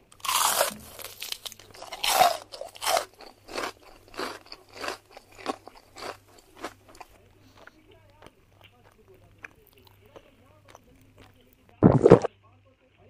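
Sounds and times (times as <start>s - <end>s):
crisp shells crunching in mouth: 0.1s - 12.3s.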